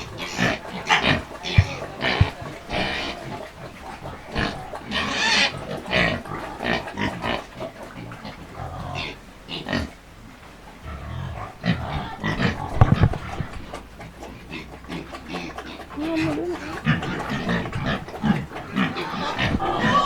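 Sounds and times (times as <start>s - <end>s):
pigs grunting and squealing: 0.0s - 10.1s, 10.8s - 20.0s.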